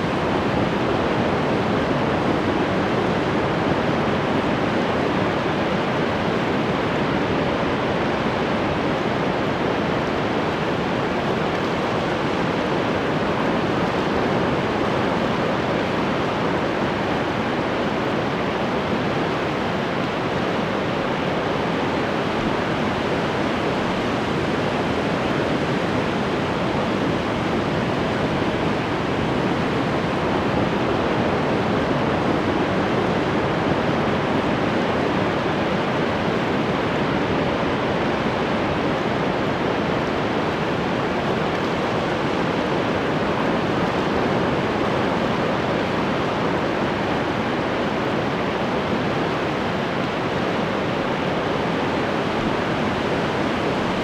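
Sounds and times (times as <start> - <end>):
ocean surf washing: 0.0 - 54.0.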